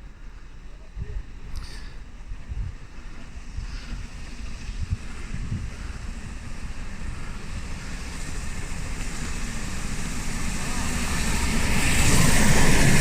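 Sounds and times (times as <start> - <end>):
approaching train hiss: 0.0 - 13.0
wind buffeting microphone: 0.0 - 13.0.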